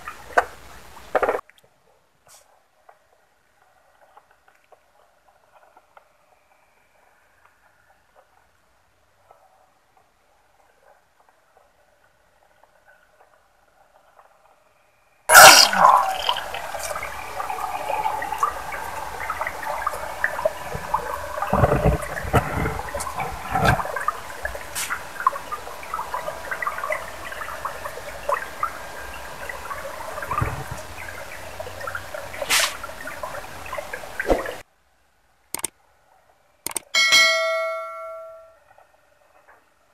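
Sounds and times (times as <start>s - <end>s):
stream water trickling: 2.7s - 34.7s.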